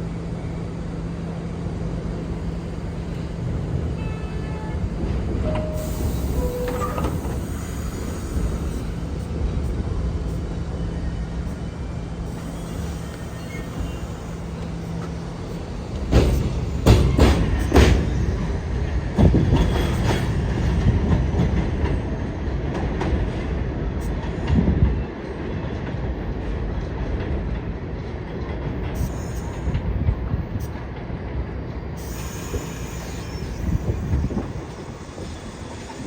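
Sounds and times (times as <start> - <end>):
subway train rumble: 0.0 - 36.0.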